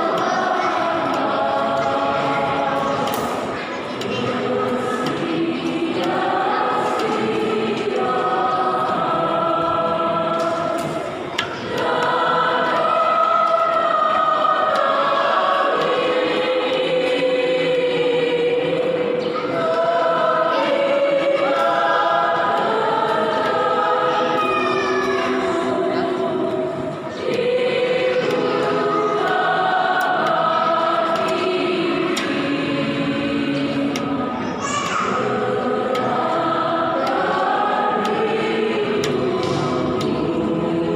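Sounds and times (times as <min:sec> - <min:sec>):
church choir singing: 0:00.0 - 0:40.9.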